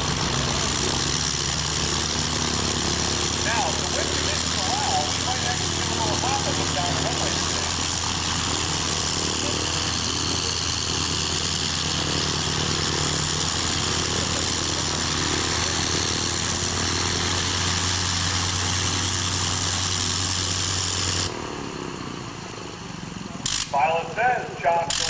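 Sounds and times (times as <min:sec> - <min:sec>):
biplane engine running: 0:00.0 - 0:25.0.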